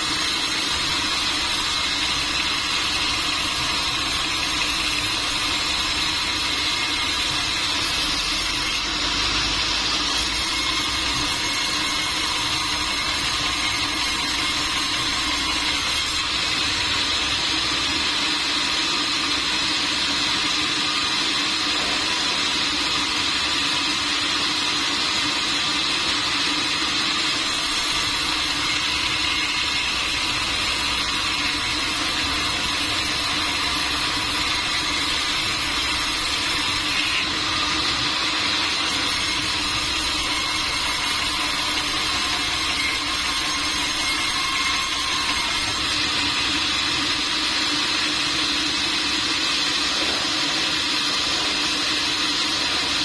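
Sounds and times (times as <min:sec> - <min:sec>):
sawmill machinery humming and whining: 0:00.0 - 0:53.0.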